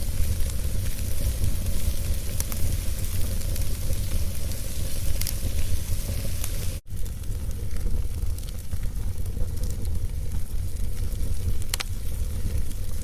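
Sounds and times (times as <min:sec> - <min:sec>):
fire crackles: 0:00.0 - 0:13.0
wood fire hissing and rumbling: 0:00.0 - 0:13.0.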